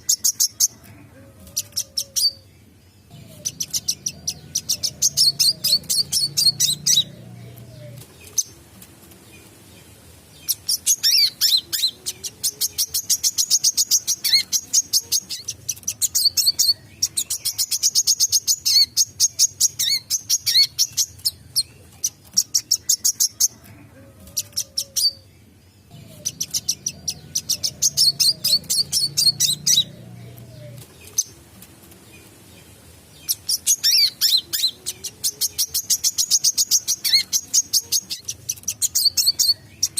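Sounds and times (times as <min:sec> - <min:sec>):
sunbird singing high chirps: 0:01.6 - 0:08.6, 0:09.3 - 0:23.4, 0:24.4 - 0:31.4, 0:32.0 - 0:39.9.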